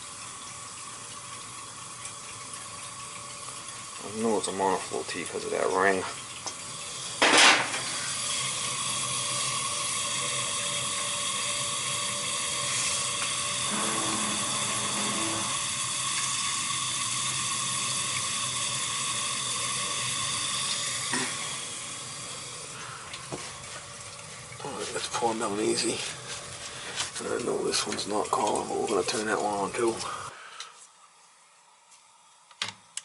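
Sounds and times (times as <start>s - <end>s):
water hissing through pipes: 0.0s - 31.0s.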